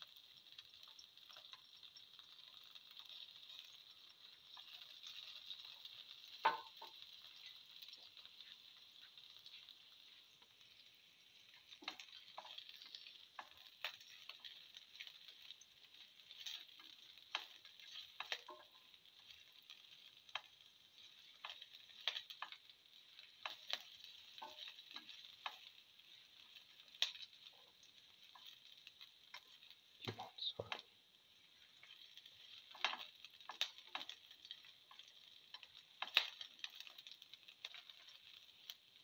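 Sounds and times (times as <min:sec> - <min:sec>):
food sizzling in oil: 0:00.0 - 0:39.0
spatula scraping a pan: 0:02.5 - 0:29.8, 0:31.6 - 0:38.8.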